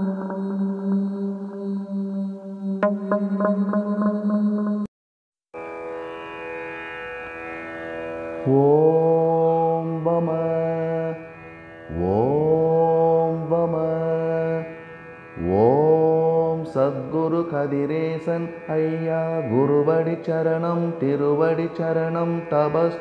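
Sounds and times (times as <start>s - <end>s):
person chanting: 0.0s - 4.8s, 8.4s - 23.0s.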